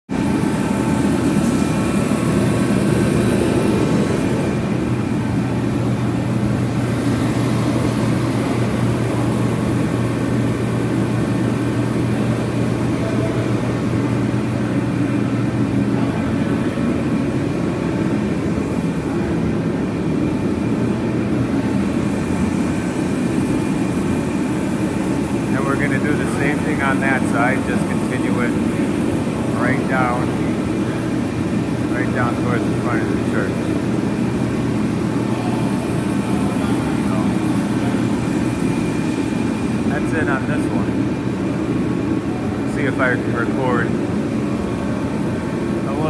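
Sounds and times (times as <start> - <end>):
steady mechanical drone: 0.1 - 46.0.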